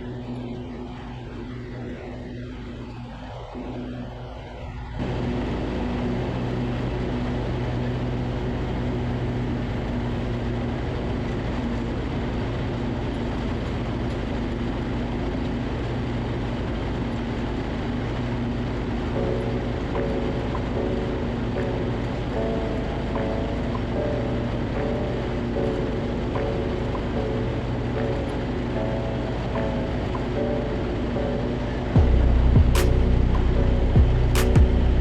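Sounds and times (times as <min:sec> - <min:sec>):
lawn tractor engine running: 0:05.0 - 0:35.0.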